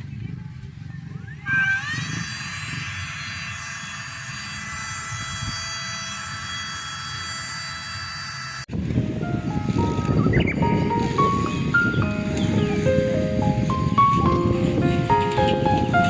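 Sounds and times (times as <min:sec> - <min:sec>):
motor running with high whine: 0:00.8 - 0:16.0.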